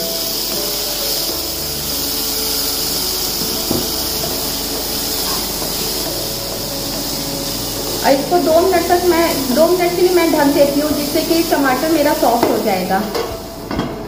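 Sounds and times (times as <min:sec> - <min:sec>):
wooden spatula stirring in pan: 0:00.0 - 0:13.4
onions and tomatoes sizzling in oil: 0:00.0 - 0:14.0.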